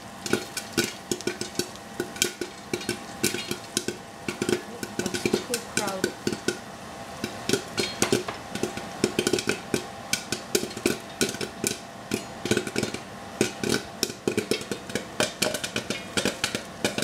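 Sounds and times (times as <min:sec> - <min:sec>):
popping and crackling in hot pan: 0:00.0 - 0:17.0.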